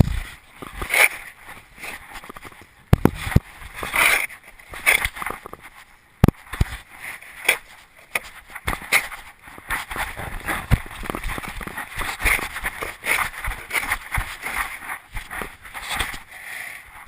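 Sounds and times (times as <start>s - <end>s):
scuffing noise: 0.0s - 16.3s.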